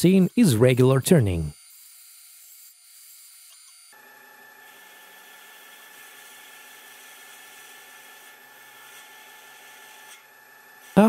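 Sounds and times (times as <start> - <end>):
lathe spindle motor whirring: 1.5 - 11.0.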